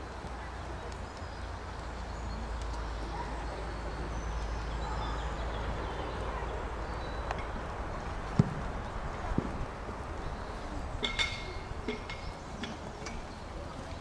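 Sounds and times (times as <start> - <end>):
faint birdsong chirps: 0.0 - 9.1, 10.0 - 14.0.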